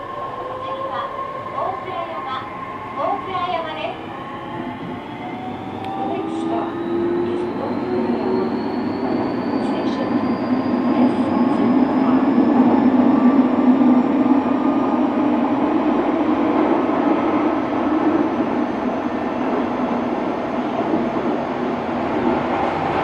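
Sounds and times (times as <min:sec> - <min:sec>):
train wheels on rails: 0:01.4 - 0:23.0.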